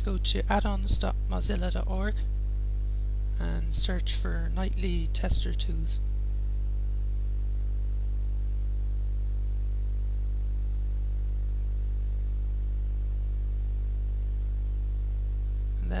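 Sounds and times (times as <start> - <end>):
low electrical mains hum: 0.0 - 16.0.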